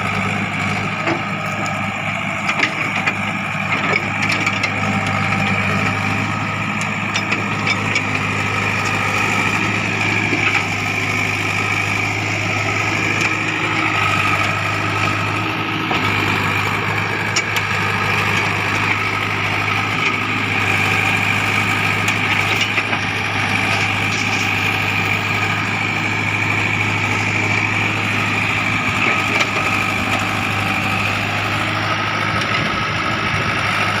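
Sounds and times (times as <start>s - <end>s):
diesel engine of heavy machinery: 0.0s - 34.0s.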